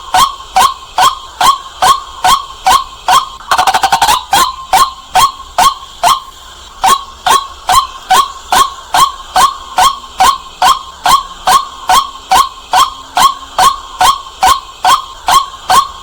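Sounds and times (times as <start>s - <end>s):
bird calling sharp notes: 0.1s - 16.0s.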